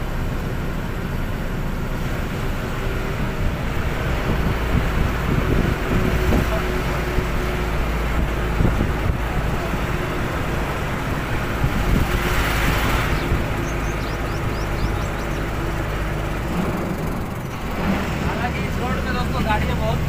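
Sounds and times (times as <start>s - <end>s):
diesel truck engine humming: 0.0s - 20.0s
road noise: 0.0s - 20.0s.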